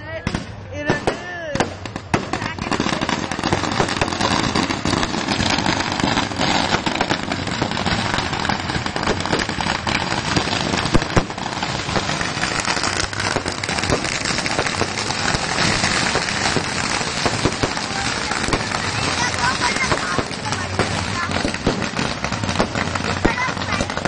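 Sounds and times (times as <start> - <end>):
firecrackers crackling: 0.0 - 24.0
loud bangs: 0.2 - 24.0.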